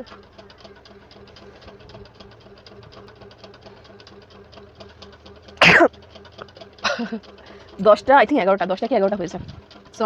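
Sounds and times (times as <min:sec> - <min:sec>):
faint fast ticking: 0:00.0 - 0:10.0.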